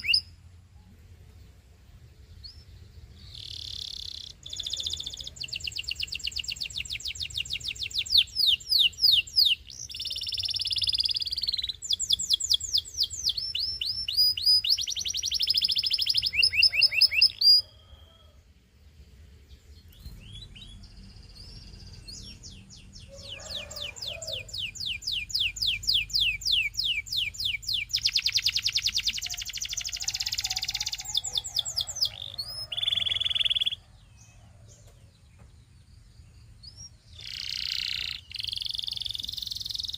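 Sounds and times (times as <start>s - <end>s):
canary singing trills: 0.0s - 0.5s, 2.2s - 18.3s, 19.4s - 39.9s.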